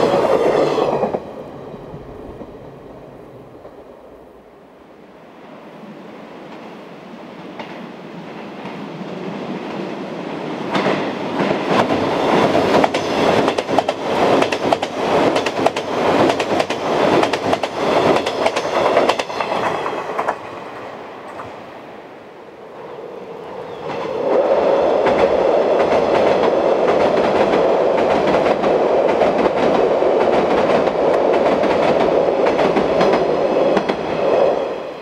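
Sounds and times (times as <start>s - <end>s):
train passing: 0.0s - 35.0s.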